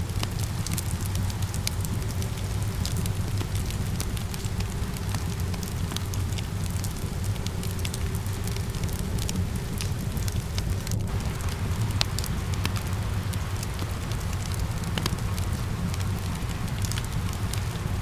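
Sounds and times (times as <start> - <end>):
low steady rumble: 0.0 - 18.0
rain pattering: 0.0 - 18.0
wood fire crackling: 0.0 - 18.0.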